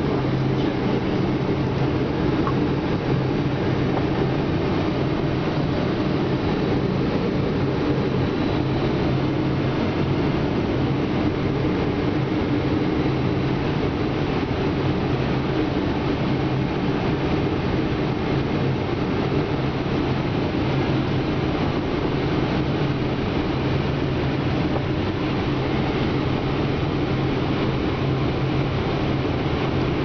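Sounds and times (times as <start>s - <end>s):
airliner engines droning: 0.0s - 30.0s
constant low hum: 0.0s - 30.0s
rushing air in cabin: 0.0s - 30.0s.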